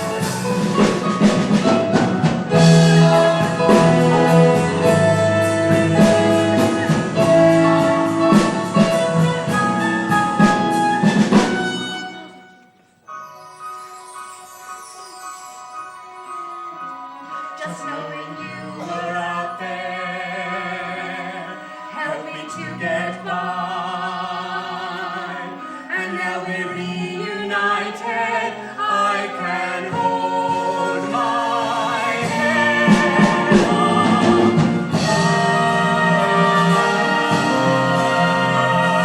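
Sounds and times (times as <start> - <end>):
voices singing with vibrato: 0.0 - 10.8, 17.5 - 39.0
instrumental accompaniment: 0.0 - 39.0.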